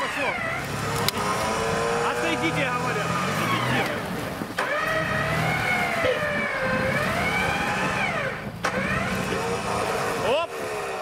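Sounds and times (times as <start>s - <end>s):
car engine revving hard: 0.0s - 11.0s.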